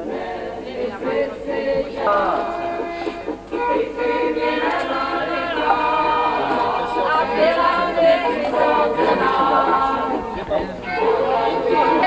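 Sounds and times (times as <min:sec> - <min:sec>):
choir singing: 0:00.0 - 0:12.0.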